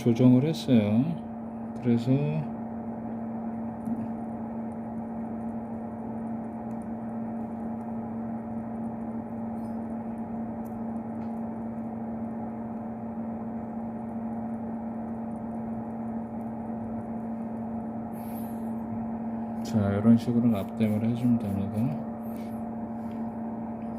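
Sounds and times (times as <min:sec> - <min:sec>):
fan-like noise: 0:00.0 - 0:23.9
machine hum: 0:00.0 - 0:23.9.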